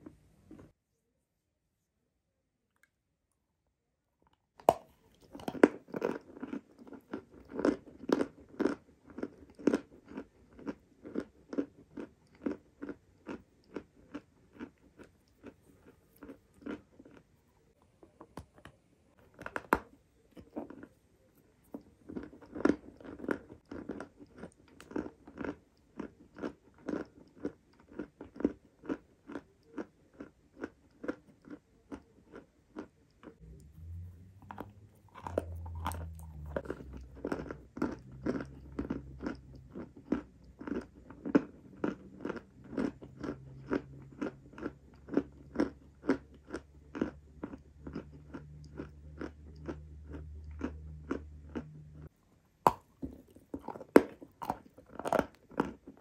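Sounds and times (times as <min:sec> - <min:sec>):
crunching chews: 0:04.6 - 0:56.0.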